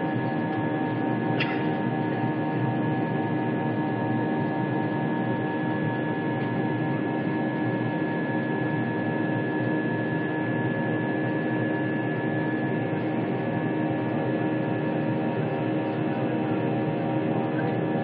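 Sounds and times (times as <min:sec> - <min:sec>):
airliner engines droning: 0:00.0 - 0:18.0.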